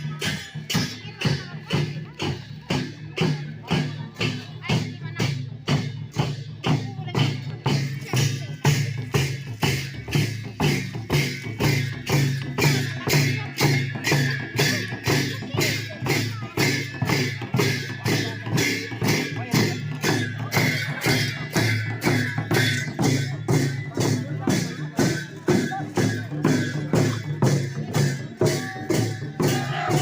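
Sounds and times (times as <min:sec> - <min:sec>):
drum and cymbals dance music: 0:00.0 - 0:30.0.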